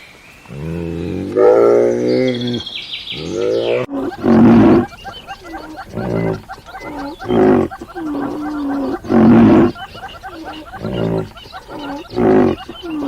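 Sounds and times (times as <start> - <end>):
loud animal calls: 0.5 - 13.0
soft pitch-bending animal calls: 1.2 - 13.0.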